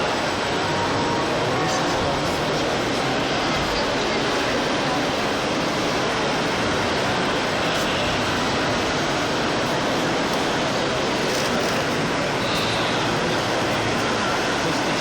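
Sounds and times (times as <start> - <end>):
steady background din: 0.0 - 15.0.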